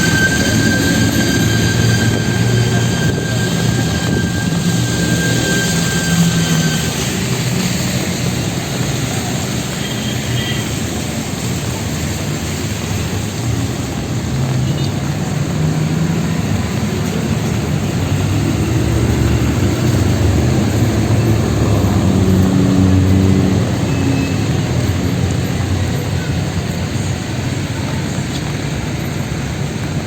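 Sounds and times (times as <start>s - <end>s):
heavy engine drone: 0.0s - 30.0s
rain hiss on wet road: 0.0s - 30.0s
vehicle engines passing: 0.0s - 30.0s.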